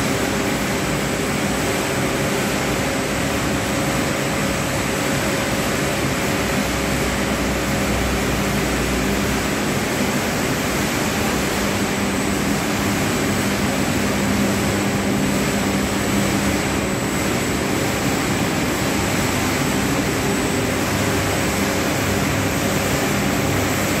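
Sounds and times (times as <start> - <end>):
grain-cleaning machine droning: 0.0 - 24.0.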